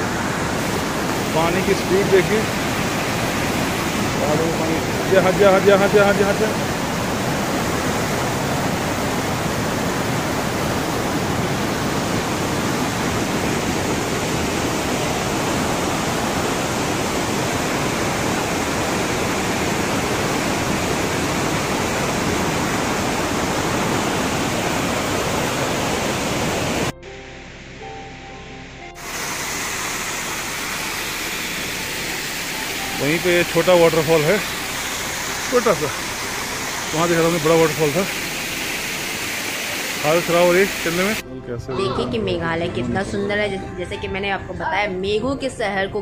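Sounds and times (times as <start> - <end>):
rushing mountain stream: 0.0 - 27.0, 29.0 - 41.2
small waterfall rushing: 0.0 - 27.0, 29.0 - 41.2.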